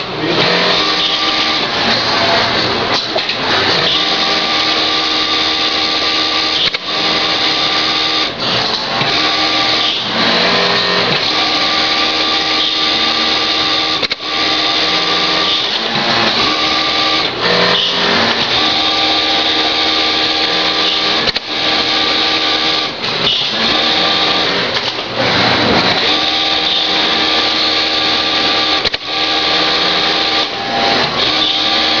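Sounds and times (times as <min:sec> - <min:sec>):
sewing machine running fast: 0:00.0 - 0:32.0
tape cutter click: 0:00.0 - 0:32.0.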